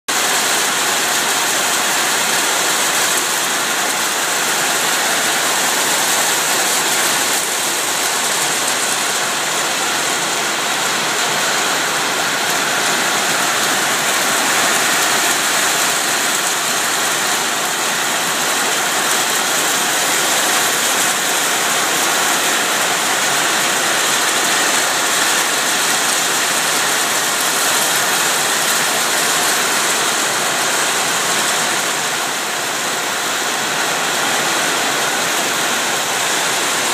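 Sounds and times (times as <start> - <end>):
heavy rain on paving and roofs: 0.1 - 36.9.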